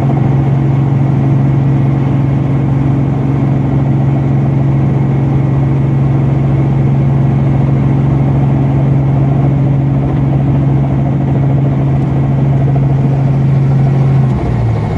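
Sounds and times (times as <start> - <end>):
helicopter engine and rotors drone: 0.0 - 14.9.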